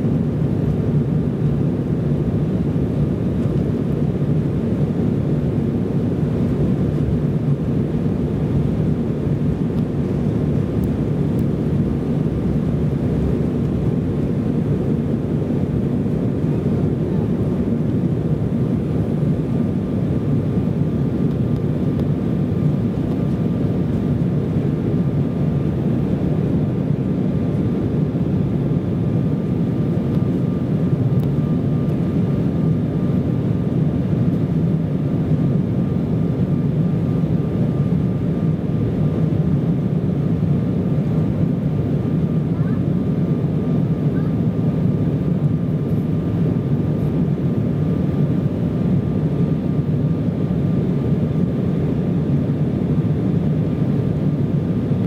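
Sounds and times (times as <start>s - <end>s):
faint steady whine: 0.0s - 55.0s
jet engines low rumble: 0.0s - 55.0s.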